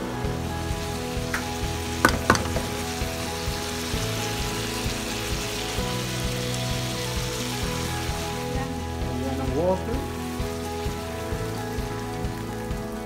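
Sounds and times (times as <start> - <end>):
chicken sizzling in a pan: 0.3 - 13.0.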